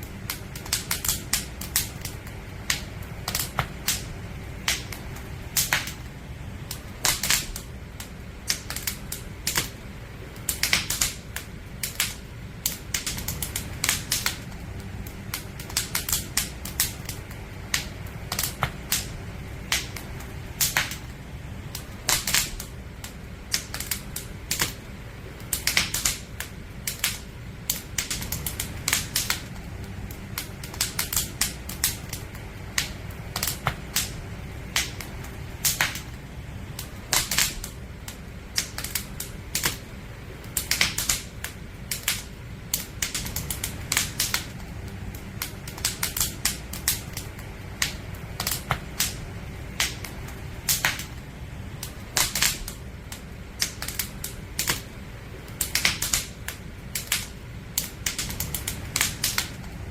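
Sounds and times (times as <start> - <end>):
campfire crackling and popping: 0.0 - 59.9
low fire rumble: 0.0 - 59.9.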